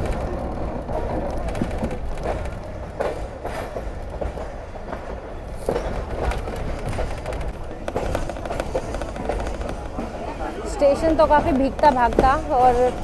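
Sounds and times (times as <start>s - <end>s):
train rumbling: 0.0s - 13.0s
train wheels clanking on rails: 0.0s - 13.0s.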